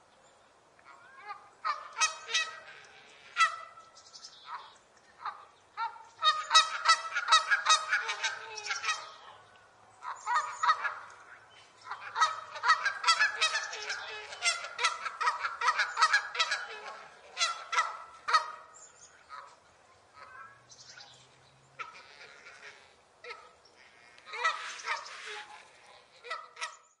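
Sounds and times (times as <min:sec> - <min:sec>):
geese honking: 0:01.0 - 0:03.9, 0:04.5 - 0:09.4, 0:10.0 - 0:20.6, 0:21.8 - 0:26.8.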